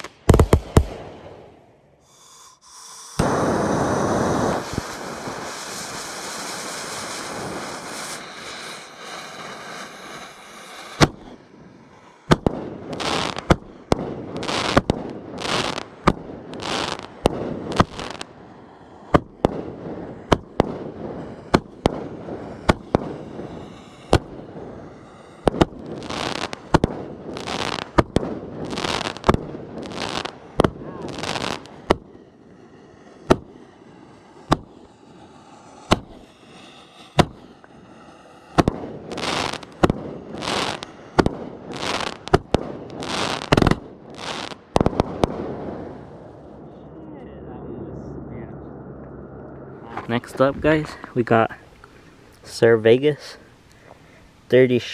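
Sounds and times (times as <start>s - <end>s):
firework cake firing: 0.0s - 46.4s.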